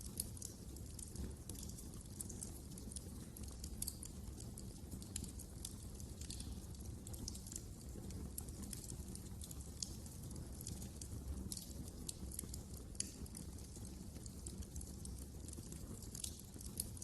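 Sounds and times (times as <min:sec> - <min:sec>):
low steady flame noise: 0:00.0 - 0:17.0
wood fire crackling: 0:00.0 - 0:17.0.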